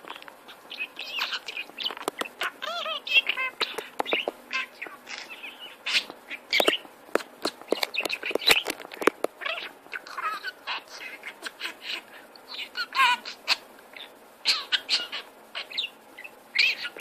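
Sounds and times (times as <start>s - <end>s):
budgerigar chattering: 0.1s - 6.9s, 9.4s - 17.0s.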